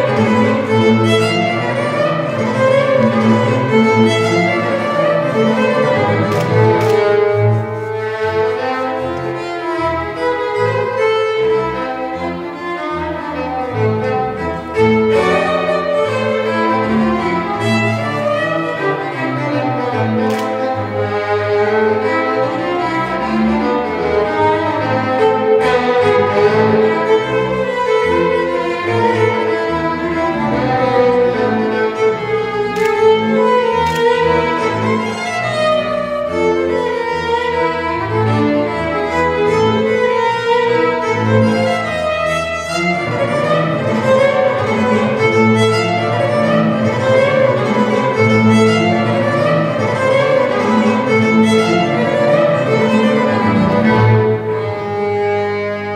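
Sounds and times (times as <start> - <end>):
bowed double bass: 0.0 - 55.9
violin melody: 0.0 - 55.9.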